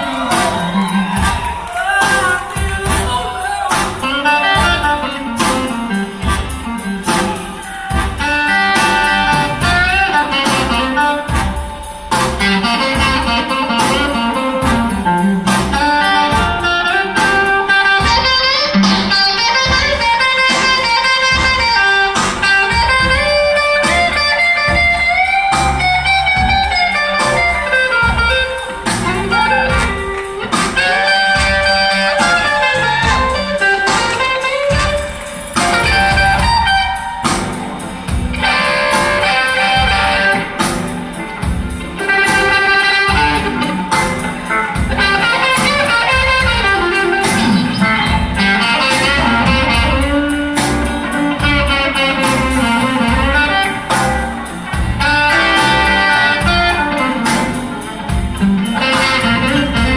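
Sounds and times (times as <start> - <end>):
bass: 0.0 - 59.9
drum beat: 0.0 - 59.9
electric guitar solo: 0.0 - 59.9.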